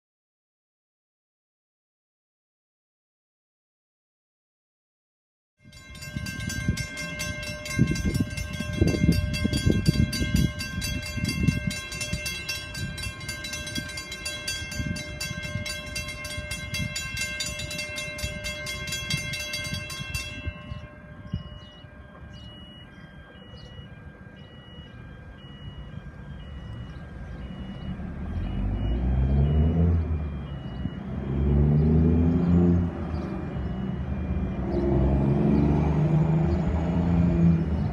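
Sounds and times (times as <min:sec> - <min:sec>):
high beeping alarm: 0:05.6 - 0:37.9
level crossing bells ringing: 0:05.6 - 0:37.9
approaching vehicle rumble: 0:06.1 - 0:37.9.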